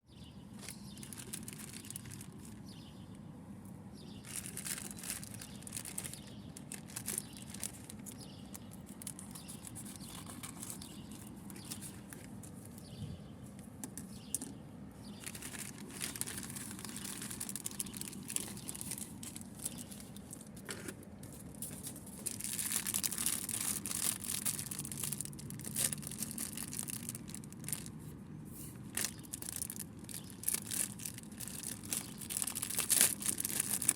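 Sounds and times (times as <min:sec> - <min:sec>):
plastic packaging crinkling: 0:00.6 - 0:02.8, 0:04.2 - 0:12.8, 0:13.8 - 0:28.1, 0:28.7 - 0:33.9.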